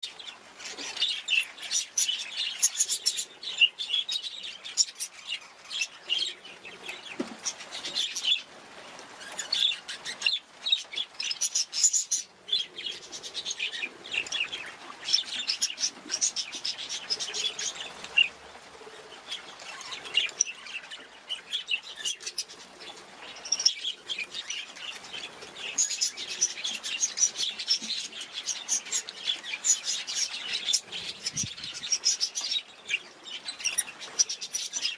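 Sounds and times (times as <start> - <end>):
budgerigars chirping and chattering: 0.0 - 8.5, 9.2 - 18.3, 19.4 - 34.9.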